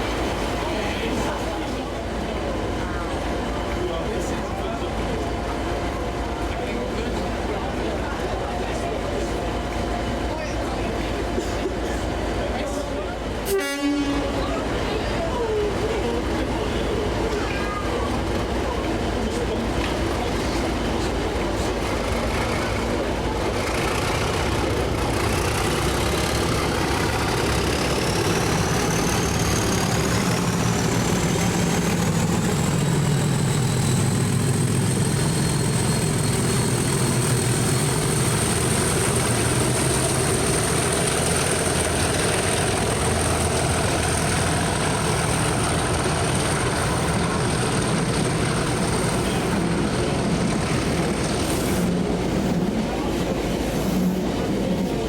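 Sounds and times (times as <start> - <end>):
diesel locomotive engine idling: 0.0 - 55.0.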